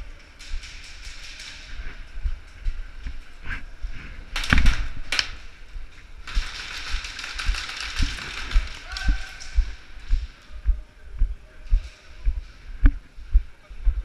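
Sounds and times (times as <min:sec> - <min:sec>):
footsteps: 0:00.0 - 0:14.0.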